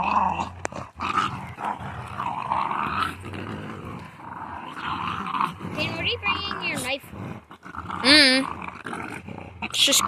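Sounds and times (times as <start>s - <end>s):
dogs growling: 0.0s - 10.0s.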